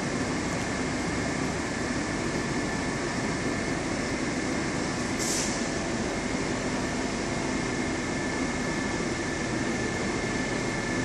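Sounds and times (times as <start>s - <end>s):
ventilation rushing hum: 0.0s - 11.0s.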